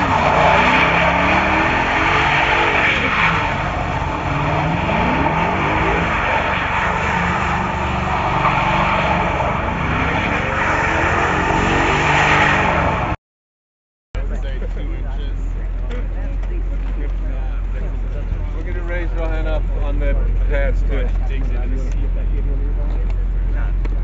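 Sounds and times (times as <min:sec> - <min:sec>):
road noise: 0:00.0 - 0:13.2, 0:14.2 - 0:24.0
vehicle engine: 0:00.0 - 0:13.2, 0:14.2 - 0:24.0.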